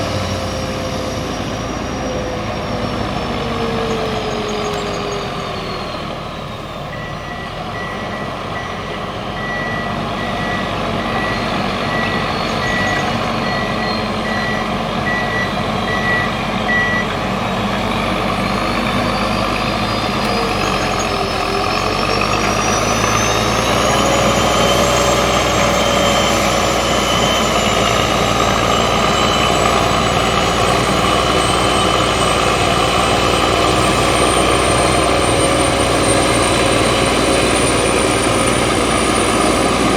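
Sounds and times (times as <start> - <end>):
diesel engine under heavy load: 0.0 - 39.9
turbocharger whistle rising: 0.0 - 39.9.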